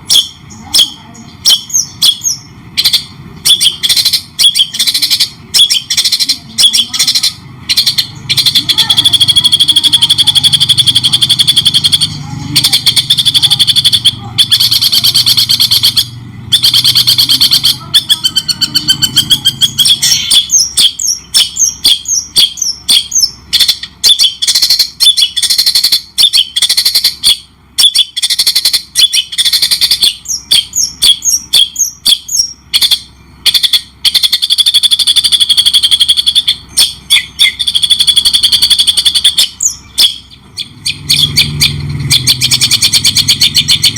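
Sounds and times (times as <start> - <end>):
shrike singing: 0.0 - 43.9.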